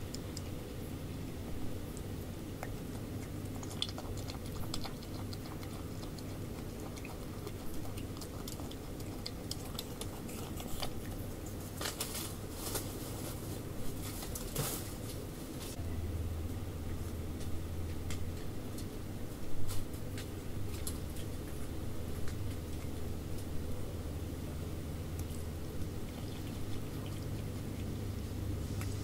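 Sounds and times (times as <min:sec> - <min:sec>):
animals crunching apple: 0:00.0 - 0:15.3, 0:16.8 - 0:29.0
steady low hum: 0:00.0 - 0:29.0.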